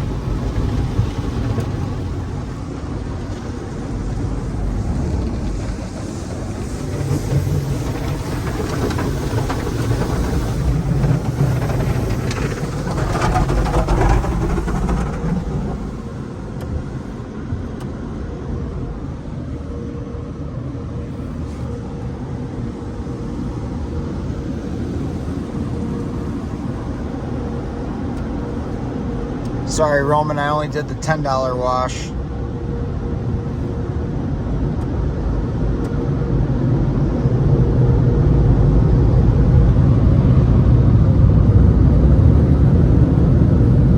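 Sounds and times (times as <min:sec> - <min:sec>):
car wash machinery running: 0:00.0 - 0:43.9.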